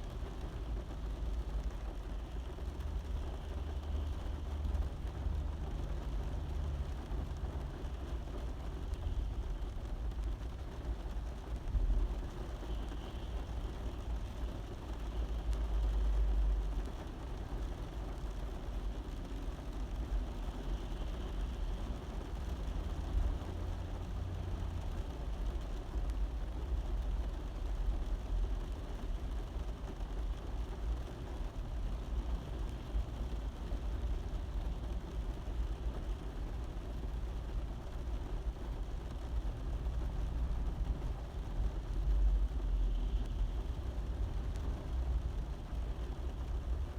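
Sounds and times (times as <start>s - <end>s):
rain on a car roof: 0.0s - 46.9s.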